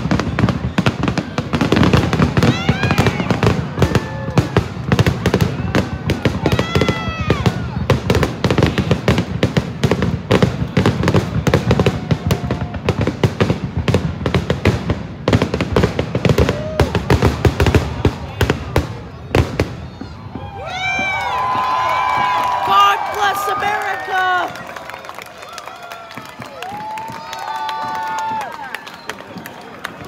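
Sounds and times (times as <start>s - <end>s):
fireworks bursting with bangs: 0.0s - 24.7s
fireworks crackling: 0.0s - 30.0s.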